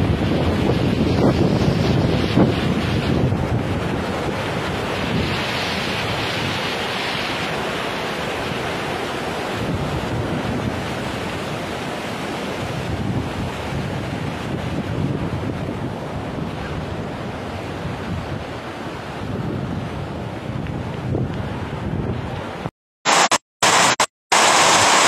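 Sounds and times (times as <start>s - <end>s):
wind buffeting microphone: 0.0s - 7.6s, 8.3s - 22.7s
floodwater rushing over wall: 0.0s - 25.0s.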